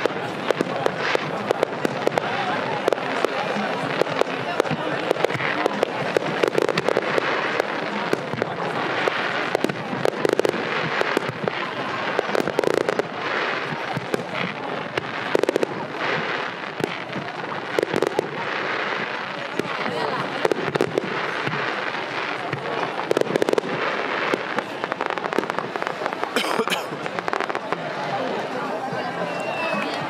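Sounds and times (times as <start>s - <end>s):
fireworks popping and banging: 0.0s - 30.0s.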